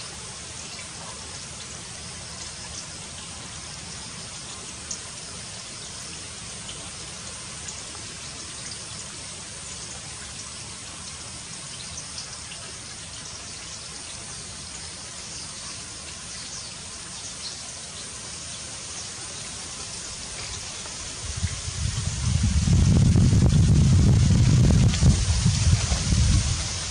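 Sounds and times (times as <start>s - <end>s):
running water hiss: 0.0s - 26.9s.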